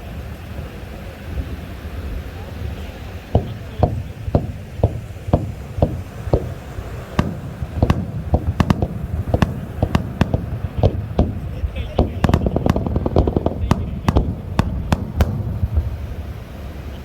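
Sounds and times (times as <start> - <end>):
fireworks bangs: 2.7 - 17.0
low rumble: 3.3 - 17.0.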